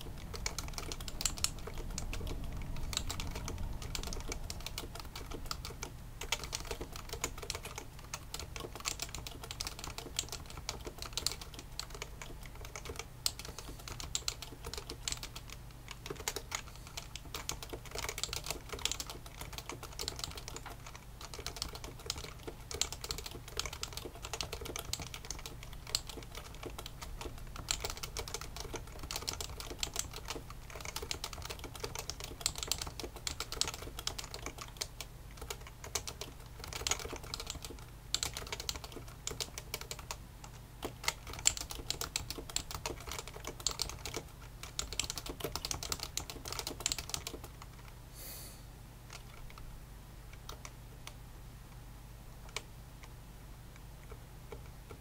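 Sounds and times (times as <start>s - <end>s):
fast keyboard typing: 0.0s - 48.0s, 49.1s - 49.6s, 50.4s - 51.2s, 52.4s - 52.7s, 54.0s - 55.0s.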